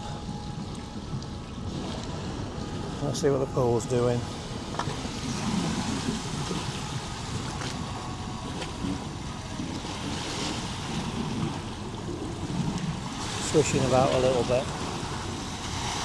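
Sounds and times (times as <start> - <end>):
pool water swishing: 0.0 - 16.0
wind buffeting microphone: 0.0 - 16.0.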